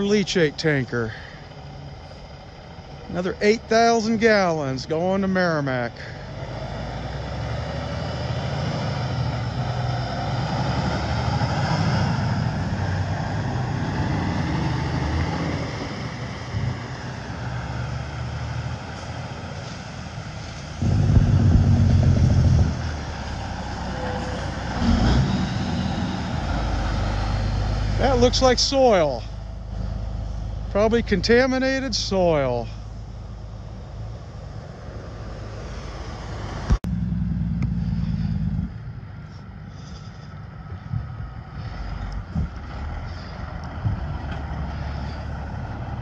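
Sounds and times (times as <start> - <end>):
heavy truck low rumble: 0.0 - 46.0
truck engine rumbling: 0.0 - 46.0
tyres on slushy road: 0.0 - 46.0.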